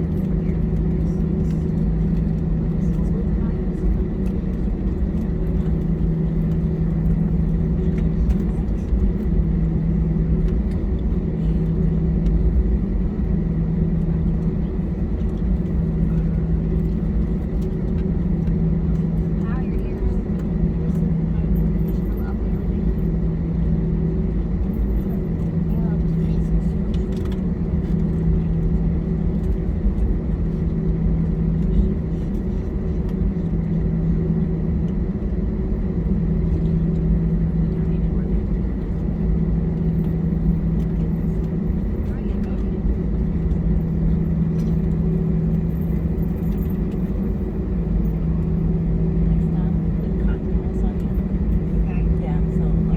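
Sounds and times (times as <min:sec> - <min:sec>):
constant hum: 0:00.0 - 0:52.9
jet engines rumbling in cabin: 0:00.0 - 0:52.9.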